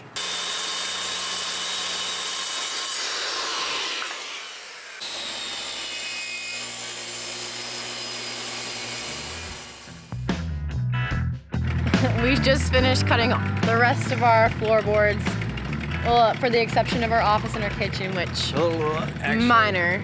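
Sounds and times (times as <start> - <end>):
electric power saw cutting wood: 0.0 - 10.2, 11.8 - 20.0.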